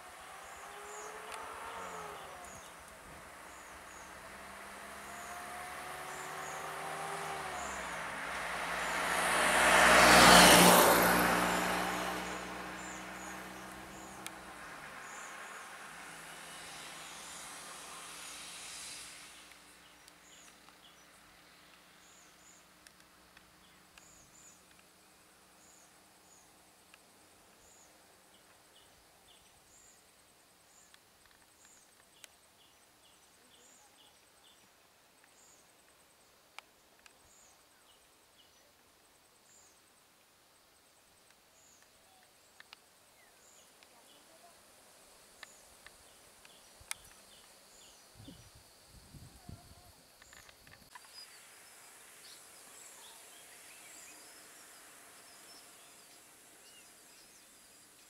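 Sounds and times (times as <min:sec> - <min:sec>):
soft hiss: 0:00.0 - 0:58.0.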